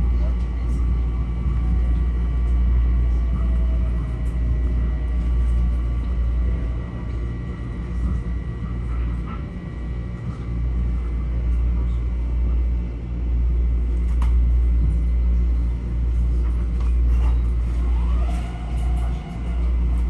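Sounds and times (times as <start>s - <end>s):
train motor hum: 0.0s - 20.0s.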